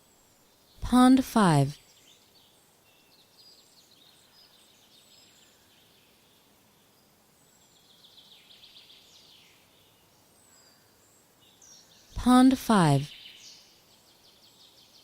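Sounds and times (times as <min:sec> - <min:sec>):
soft background hiss: 0:00.0 - 0:15.0.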